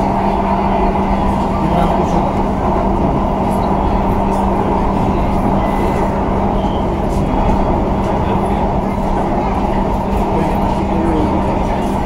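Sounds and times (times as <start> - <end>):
train rumbling inside coach: 0.0 - 12.0.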